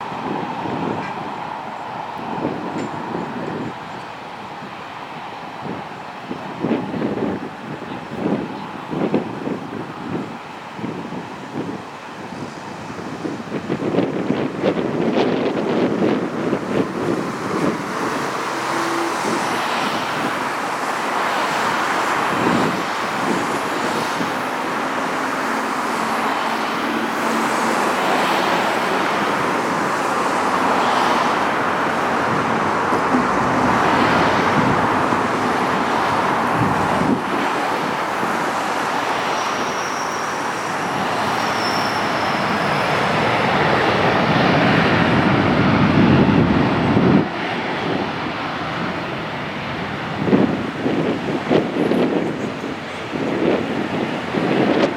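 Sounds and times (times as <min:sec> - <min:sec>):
jet airliner taking off: 0:00.0 - 0:54.9.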